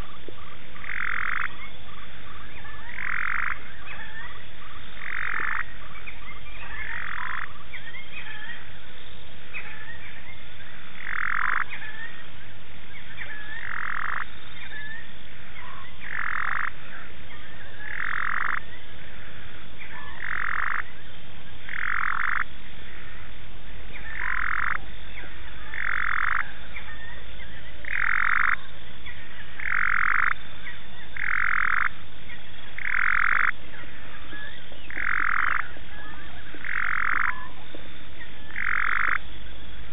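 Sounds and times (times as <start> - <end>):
frog rasping call: 0.0 - 8.8, 9.5 - 12.3, 13.0 - 21.0, 21.6 - 23.3, 23.9 - 39.3
faint rising frog calls: 0.0 - 39.9.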